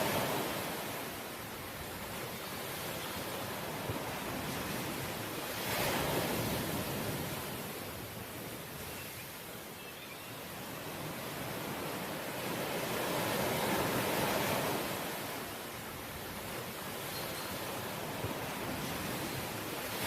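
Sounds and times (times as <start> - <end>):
surf washing ashore: 0.0 - 20.0.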